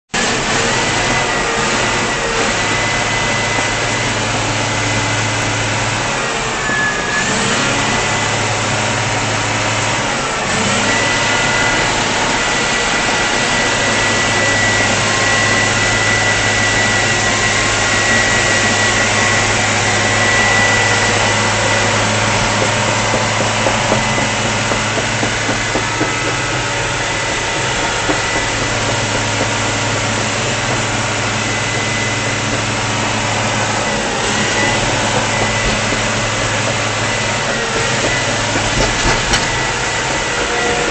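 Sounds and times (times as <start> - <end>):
diesel engine running: 0.1 - 40.9
high whine: 0.3 - 40.9.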